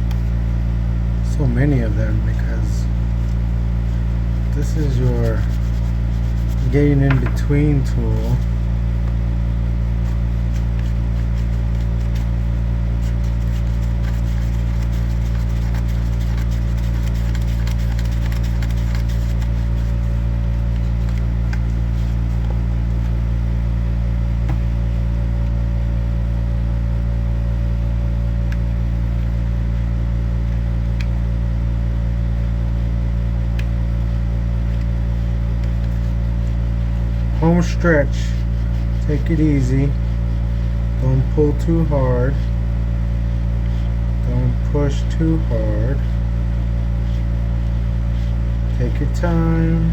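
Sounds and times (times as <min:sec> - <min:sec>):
low machine hum: 0:00.0 - 0:49.9.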